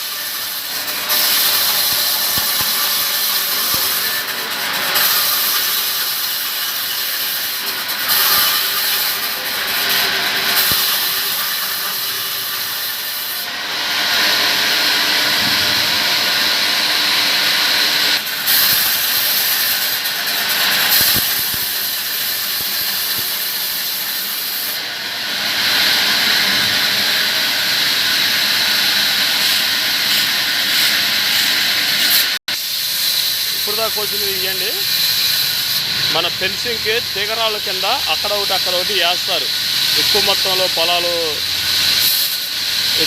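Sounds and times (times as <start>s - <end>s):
sawmill saw cutting wood: 0.0s - 43.0s.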